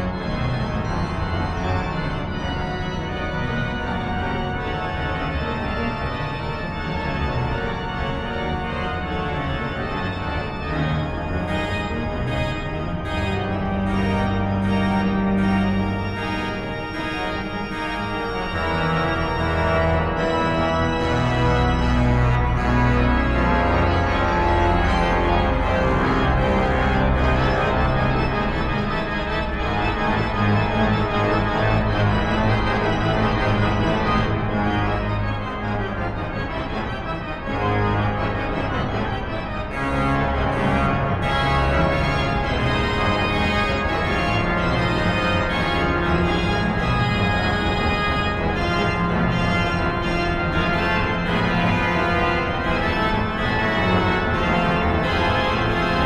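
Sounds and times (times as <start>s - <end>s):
pipe organ playing: 0.0s - 56.0s.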